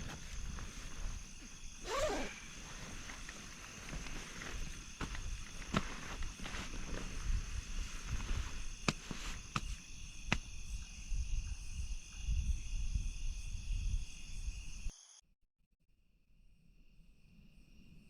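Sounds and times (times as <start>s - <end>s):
crickets trilling: 0.0s - 15.2s.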